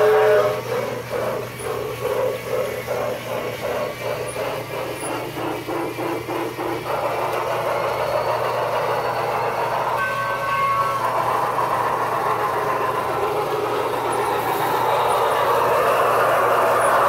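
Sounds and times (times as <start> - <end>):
toy train rattling on track: 0.0 - 17.0.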